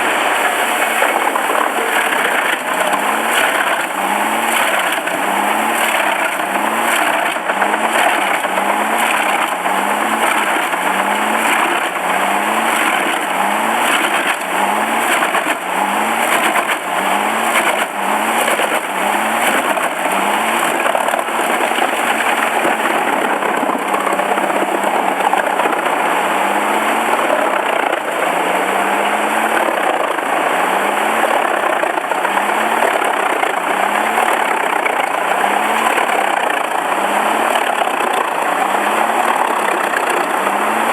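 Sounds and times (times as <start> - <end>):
wood being chipped clatter: 0.0 - 40.9
wood chipper engine under load: 0.0 - 40.9.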